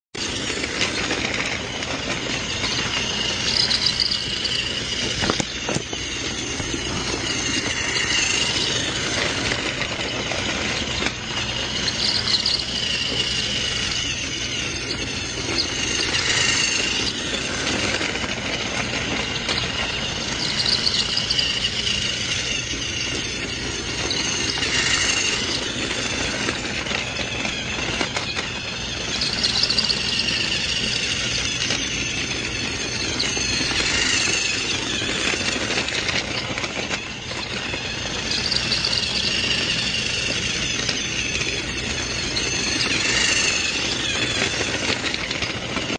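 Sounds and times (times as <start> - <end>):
toy train motor whirring: 0.2 - 45.9
toy train wheel squeal: 0.2 - 45.9.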